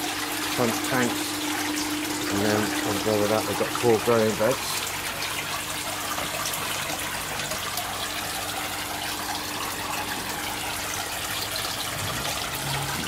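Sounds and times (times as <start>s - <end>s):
faint steady hum: 0.0s - 13.0s
water splashing from pipe: 0.0s - 13.0s.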